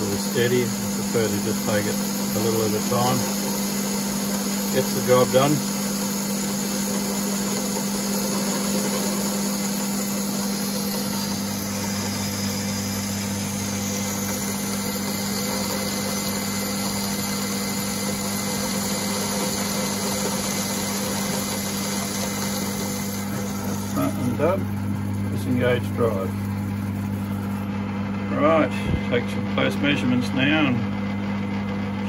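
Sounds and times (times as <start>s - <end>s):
lathe motor hum: 0.0s - 32.0s.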